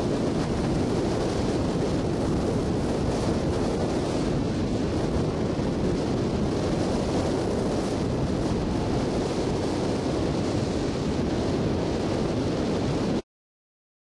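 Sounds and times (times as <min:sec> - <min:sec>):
wind rushing on microphone: 0:00.0 - 0:13.2.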